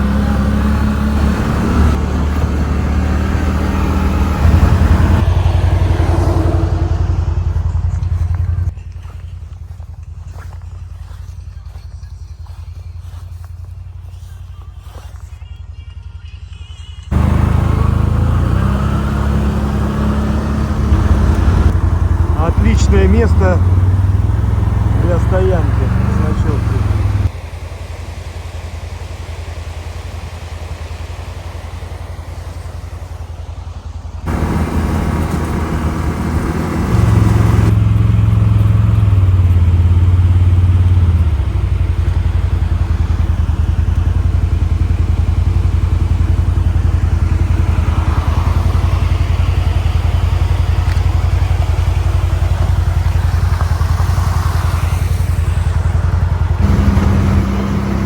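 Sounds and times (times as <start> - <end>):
atv engine drone: 0.0 - 58.0.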